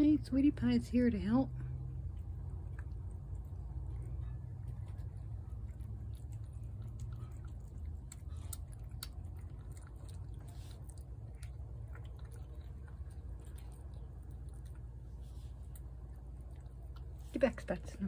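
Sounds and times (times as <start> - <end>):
low steady rumble: 0.0 - 18.0
cat chewing wet food: 1.5 - 18.0.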